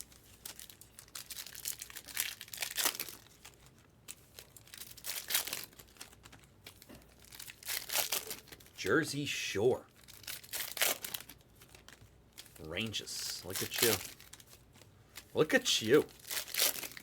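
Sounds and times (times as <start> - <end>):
wrappers crinkling and tearing: 0.0 - 17.0.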